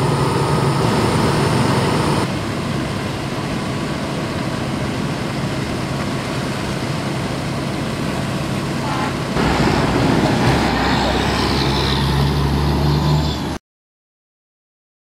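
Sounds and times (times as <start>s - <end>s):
diesel engines rumbling: 0.0s - 13.6s.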